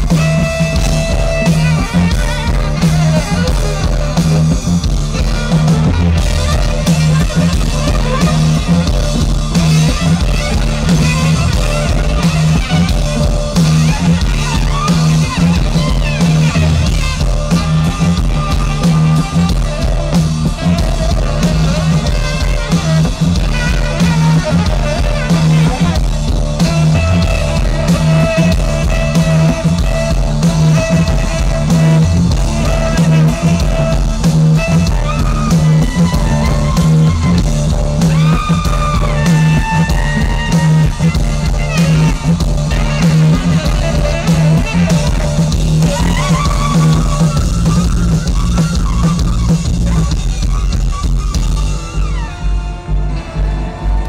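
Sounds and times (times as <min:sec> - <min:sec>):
live band music: 0:00.0 - 0:54.0.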